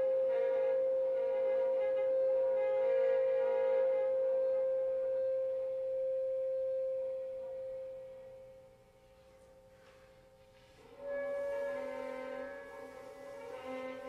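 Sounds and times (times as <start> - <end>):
clarinet holding a note: 0.0 - 8.8, 10.6 - 14.0.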